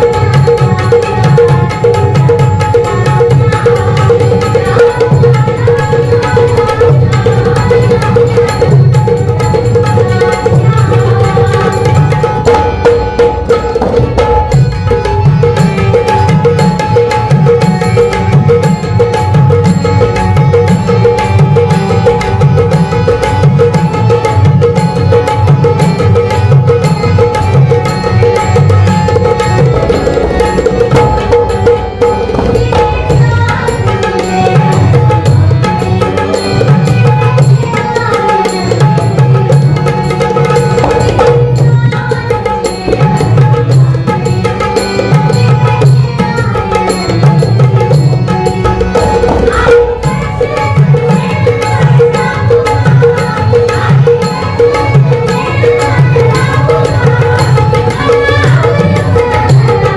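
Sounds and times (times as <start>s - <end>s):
woman singing: 0.0s - 18.9s, 19.9s - 59.9s
fast hand drumming: 0.0s - 59.9s
harmonium held notes: 0.0s - 59.9s.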